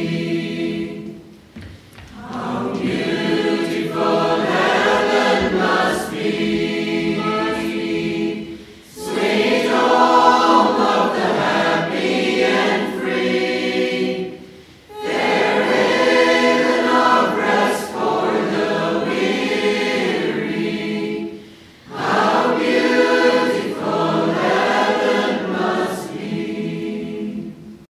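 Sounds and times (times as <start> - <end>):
choir singing: 0.0 - 1.3, 2.1 - 27.9.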